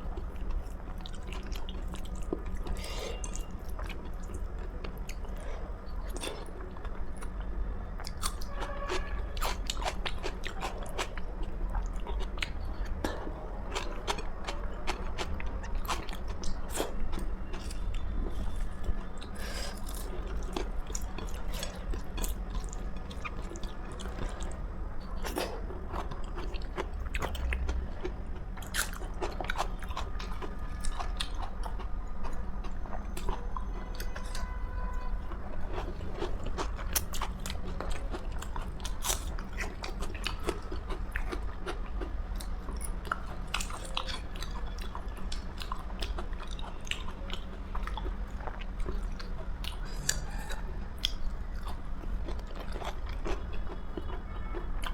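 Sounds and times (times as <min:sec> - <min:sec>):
chewing and crunching food: 0:00.0 - 0:54.9.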